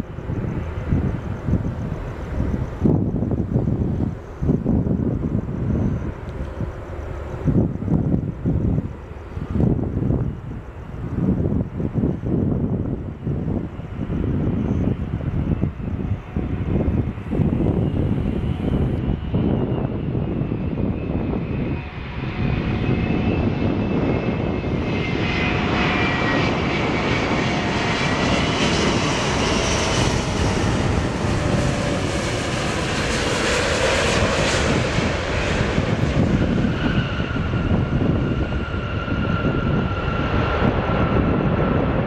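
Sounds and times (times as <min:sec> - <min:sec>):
jet airliner landing: 0:00.0 - 0:42.0.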